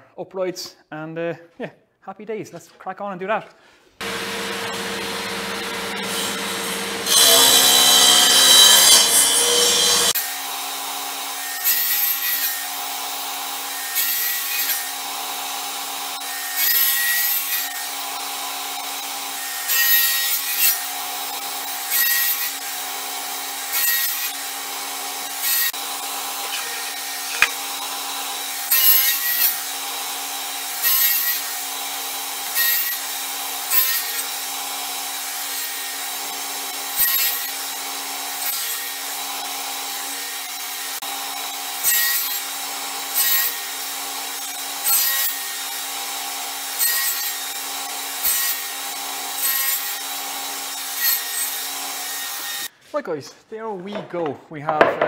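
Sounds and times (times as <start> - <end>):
table saw cutting plywood: 4.0 - 52.7.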